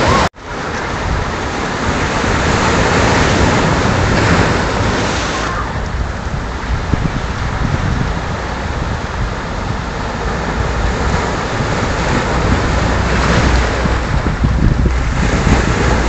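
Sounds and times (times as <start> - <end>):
surf breaking over rocks: 0.0 - 16.0
wind buffeting microphone: 0.0 - 16.0.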